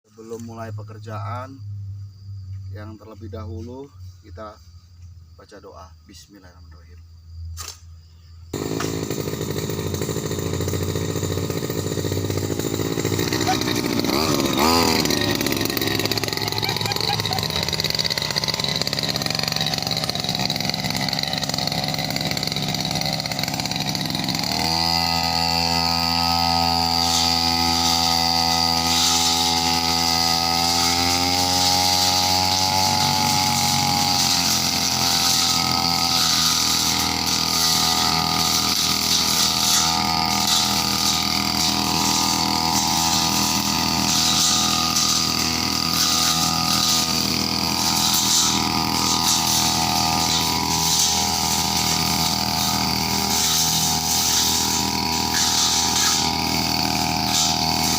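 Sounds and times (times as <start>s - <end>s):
brush cutter engine running: 8.5s - 57.9s.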